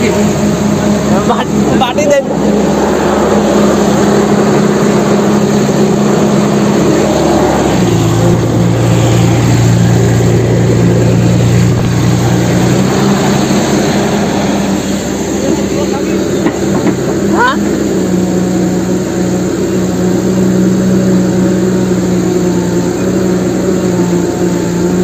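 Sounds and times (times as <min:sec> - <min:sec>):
engine drone: 0:00.0 - 0:25.0.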